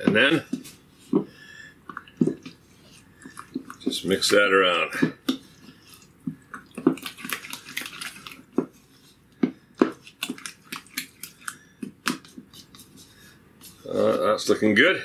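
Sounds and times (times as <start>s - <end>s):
wet squelching of stirred sauce: 0.0s - 14.4s.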